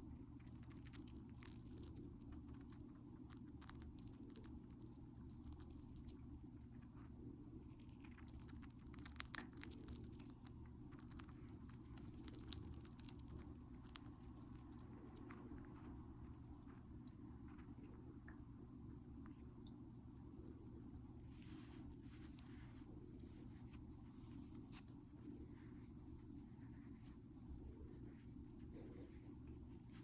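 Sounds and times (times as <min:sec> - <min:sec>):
hamster crunching food: 0:00.0 - 0:30.0
steady low hum: 0:00.0 - 0:30.0.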